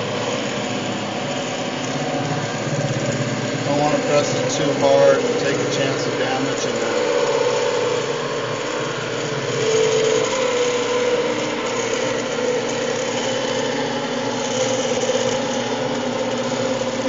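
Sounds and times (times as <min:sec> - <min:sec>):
lathe motor humming: 0:00.0 - 0:17.0.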